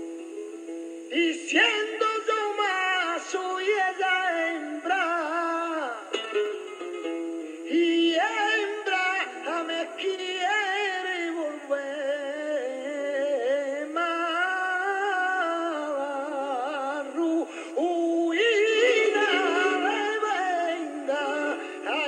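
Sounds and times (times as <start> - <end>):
acoustic guitar accompaniment: 0.0 - 22.0
man singing melismatic lines: 1.0 - 22.0.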